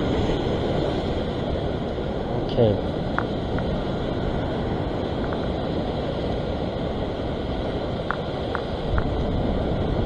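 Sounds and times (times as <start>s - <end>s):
ocean surf on rocks: 0.0s - 10.0s
wind buffeting microphone: 0.0s - 10.0s.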